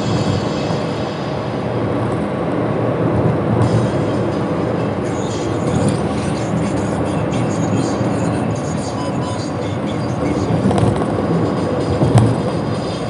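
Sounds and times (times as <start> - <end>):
car driving at highway speed: 0.0 - 13.0
tyre and road noise: 0.0 - 13.0.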